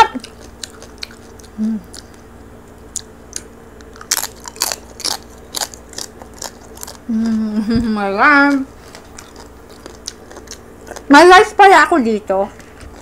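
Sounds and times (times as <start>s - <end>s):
crunchy chewing close up: 0.0s - 7.6s, 8.4s - 11.3s, 12.6s - 13.0s.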